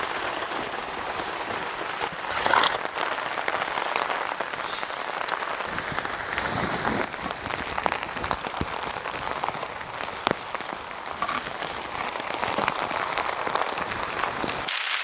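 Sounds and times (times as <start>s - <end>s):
heavy rain falling: 0.0s - 15.0s
raindrops tapping a surface: 0.0s - 15.0s.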